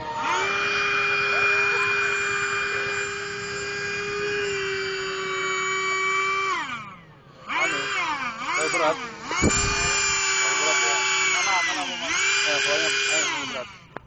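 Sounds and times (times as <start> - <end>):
model speedboat motor whine: 0.0 - 14.0.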